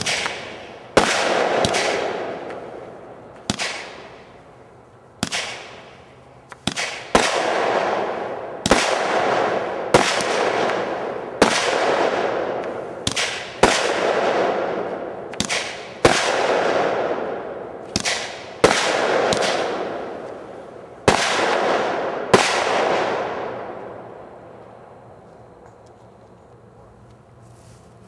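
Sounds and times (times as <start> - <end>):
firework bangs with rolling echo: 0.0 - 4.5, 5.2 - 24.8.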